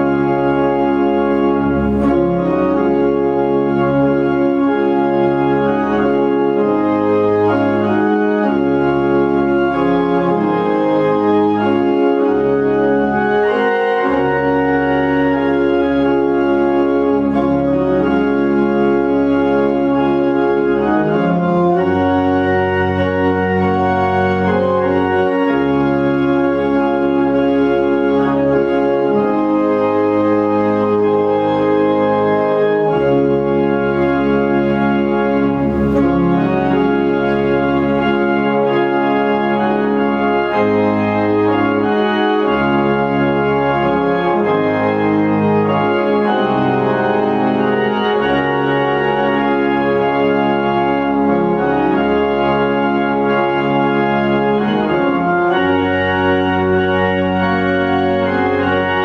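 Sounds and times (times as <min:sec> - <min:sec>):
organ playing a slow hymn: 0:00.0 - 0:59.0.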